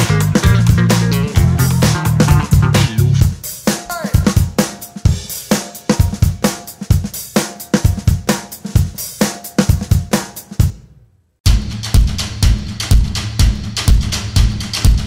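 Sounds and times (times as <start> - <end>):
drum beat music: 0.0 - 15.0.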